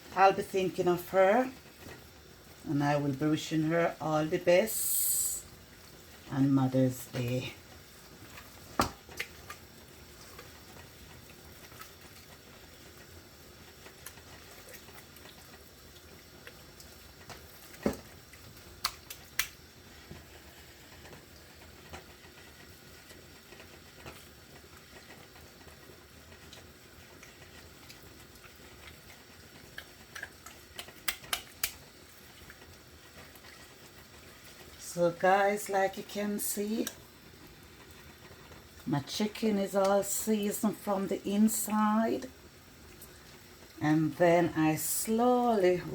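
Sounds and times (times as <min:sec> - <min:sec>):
faint steady hiss: 0:00.0 - 0:45.9.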